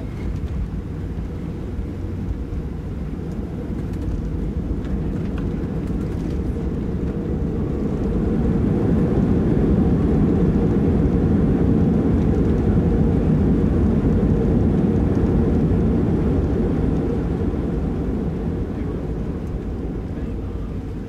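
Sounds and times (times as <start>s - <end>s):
airport noise low rumble: 0.0s - 21.0s.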